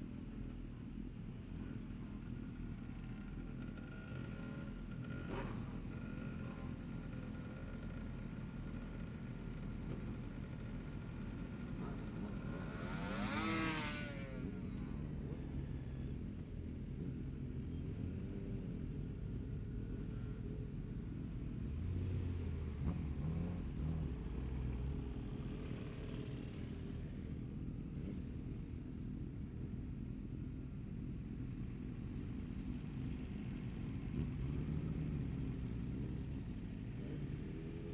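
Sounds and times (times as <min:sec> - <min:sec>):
low engine rumble: 0:00.0 - 0:37.9.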